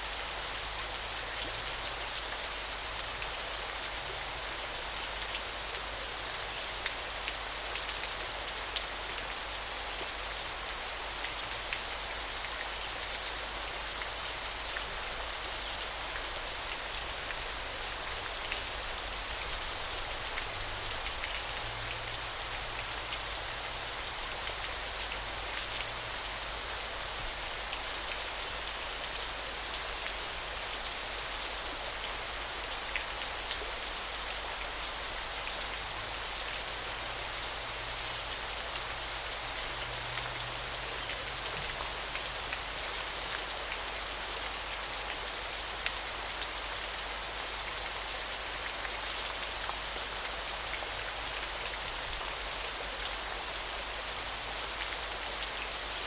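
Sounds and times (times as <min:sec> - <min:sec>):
rushing water hiss: 0:00.0 - 0:56.0.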